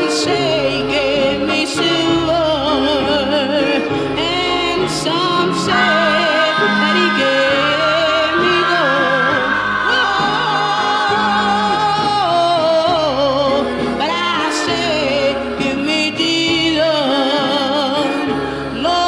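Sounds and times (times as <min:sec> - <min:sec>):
gospel vocal group singing: 0:00.0 - 0:19.0.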